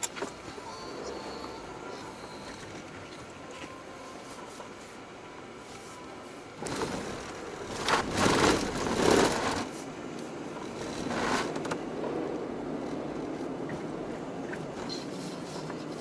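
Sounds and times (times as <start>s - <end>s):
rattly tyre and body noise: 0.0s - 16.0s
steady low rumble: 0.3s - 16.0s.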